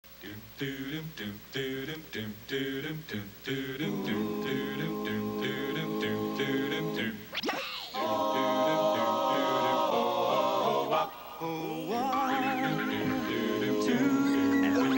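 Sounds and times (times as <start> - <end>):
a cappella vocal group singing: 0.2 - 14.9.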